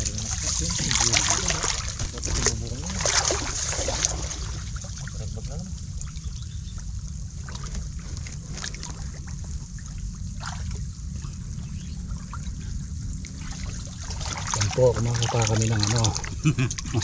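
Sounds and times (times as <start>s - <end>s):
low rumble: 0.0s - 17.0s
muddy water trickling and splashing: 0.0s - 17.0s.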